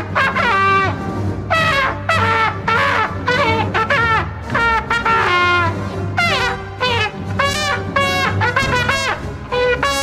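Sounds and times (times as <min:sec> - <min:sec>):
trombone melody with sliding notes: 0:00.0 - 0:10.0.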